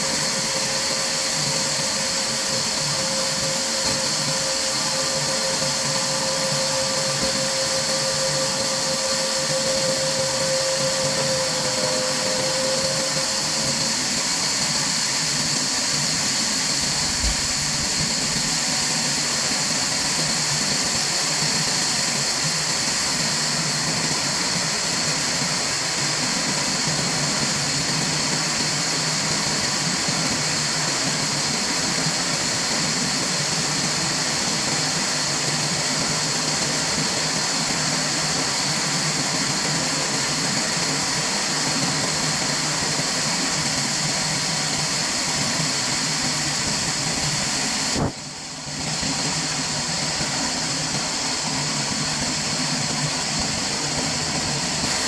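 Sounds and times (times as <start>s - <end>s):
hissing machinery noise: 0.0s - 55.0s.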